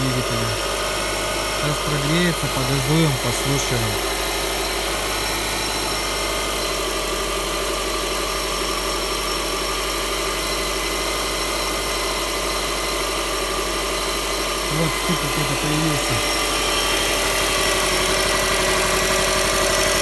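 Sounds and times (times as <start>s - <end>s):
car engine idling: 0.0s - 11.2s, 12.0s - 20.0s.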